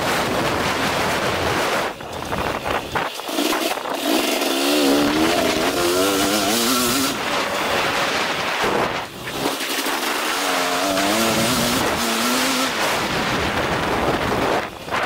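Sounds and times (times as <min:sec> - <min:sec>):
motocross bike engine revving: 0:00.0 - 0:15.0
wind rush on microphone: 0:00.0 - 0:15.0.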